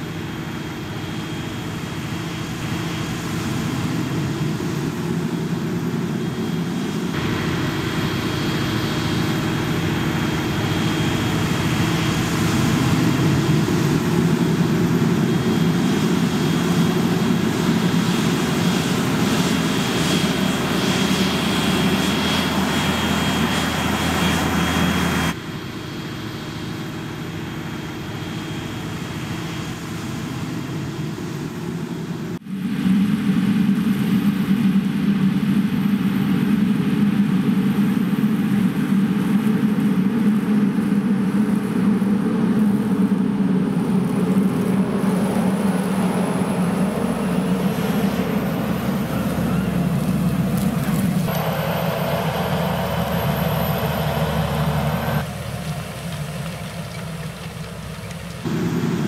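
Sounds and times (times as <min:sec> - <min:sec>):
tractor engines running: 0:00.0 - 0:32.3, 0:35.5 - 0:59.0.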